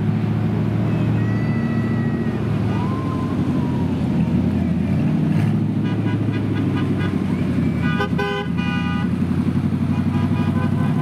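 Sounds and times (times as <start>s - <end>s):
cars driving slowly past: 0.0s - 11.0s.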